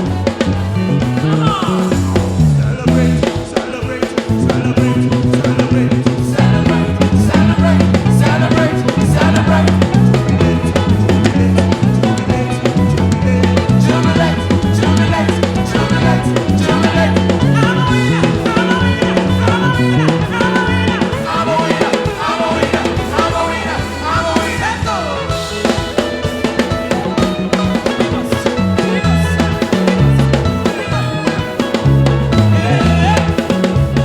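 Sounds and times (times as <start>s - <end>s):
drum kit beat: 0.0s - 34.0s
gospel praise band playing: 0.0s - 34.0s
repeating bass line: 0.0s - 34.0s.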